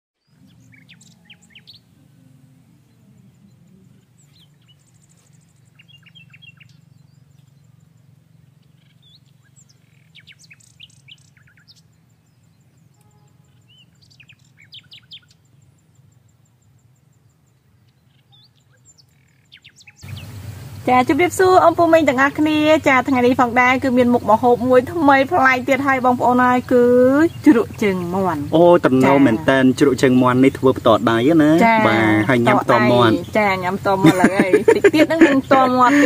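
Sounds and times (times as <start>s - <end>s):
small birds chirping: 0.2s - 36.0s
steady low hum: 0.2s - 36.0s.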